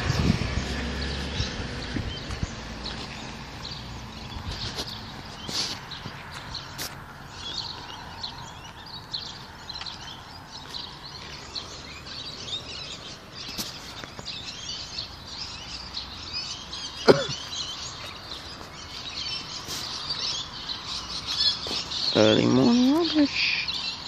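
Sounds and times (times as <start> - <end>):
birds chirping and calling: 0.0 - 24.0.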